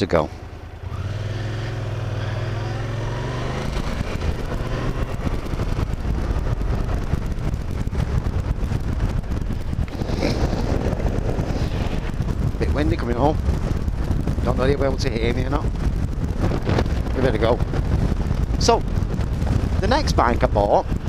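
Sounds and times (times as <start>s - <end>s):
vehicle engine running: 0.0s - 20.0s
wind buffeting microphone: 0.0s - 21.0s.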